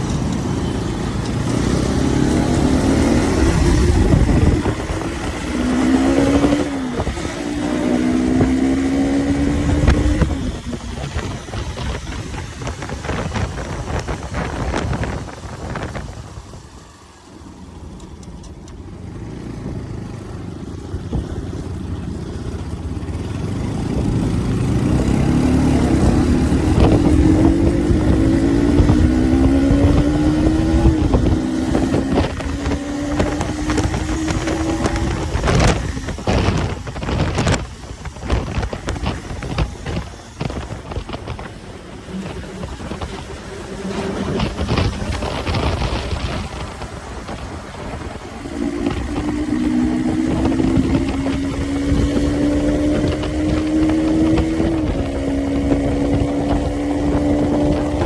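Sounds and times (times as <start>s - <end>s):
rough noise: 0.0s - 16.9s, 23.2s - 58.0s
motorcycle engine pulling: 0.0s - 58.0s.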